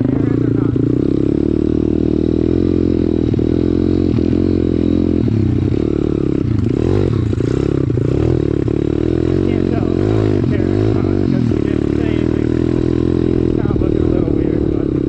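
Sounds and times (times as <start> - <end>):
bike rattling: 0.0 - 15.0
motorbike engine running: 0.0 - 15.0.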